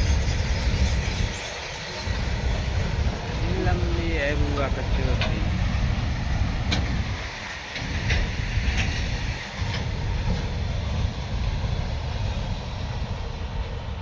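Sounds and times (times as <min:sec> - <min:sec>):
train wagons rumbling on rails: 0:00.0 - 0:14.0.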